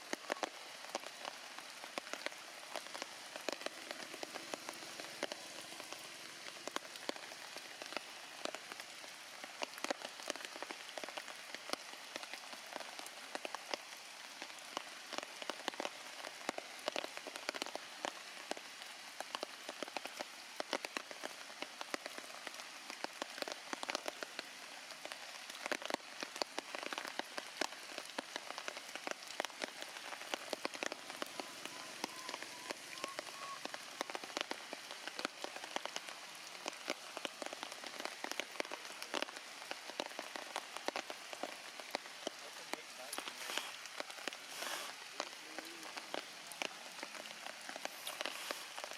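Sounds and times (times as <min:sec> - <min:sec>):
heavy rain falling: 0:00.0 - 0:48.9
sharp raindrop impacts: 0:00.0 - 0:48.9.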